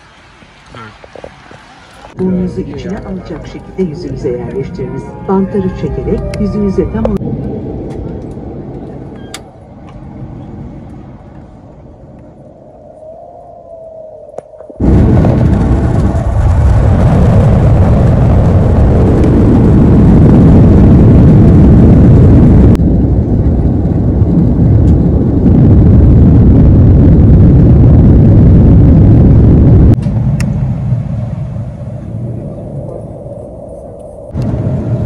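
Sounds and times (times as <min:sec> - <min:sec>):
jet airliner cabin rumble: 0:00.0 - 0:35.0.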